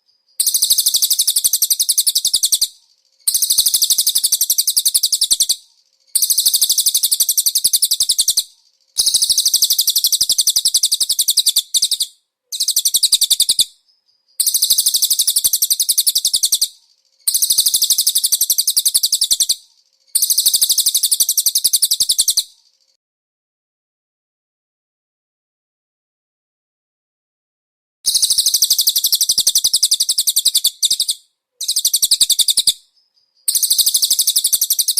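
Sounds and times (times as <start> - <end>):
songbird trill: 0.0 - 23.0, 28.1 - 34.9.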